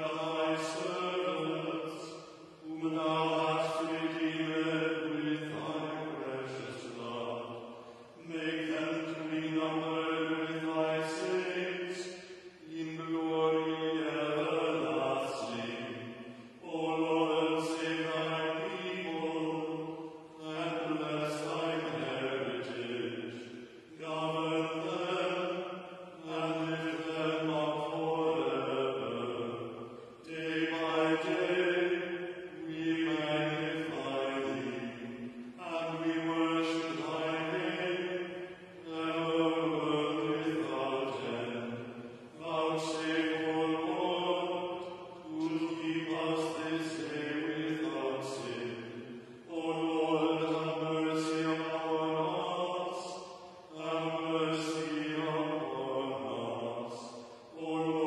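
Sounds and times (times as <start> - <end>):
liturgical chanting: 0.0 - 58.0.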